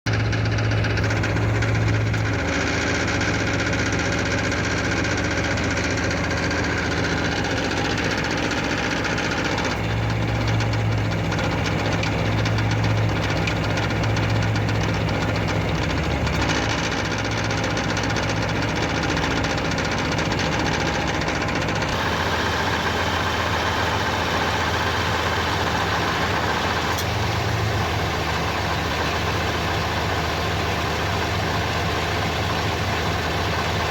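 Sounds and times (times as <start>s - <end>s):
car engine idling with rattle: 0.1s - 33.9s.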